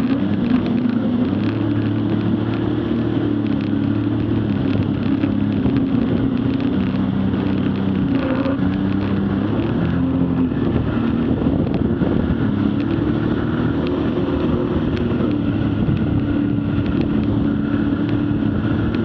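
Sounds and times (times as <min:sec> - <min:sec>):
jet ski engine running: 0:00.0 - 0:19.0
water rushing against hull: 0:00.0 - 0:19.0.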